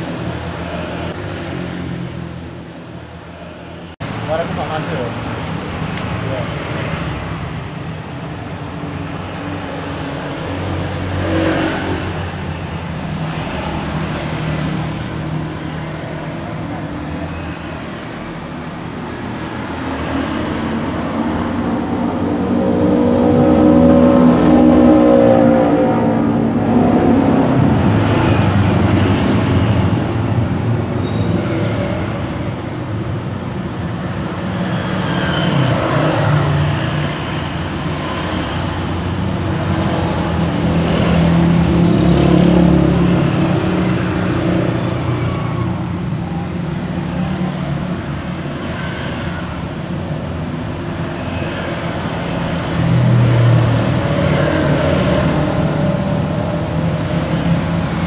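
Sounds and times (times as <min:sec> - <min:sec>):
cars driving past: 0:00.0 - 0:58.0.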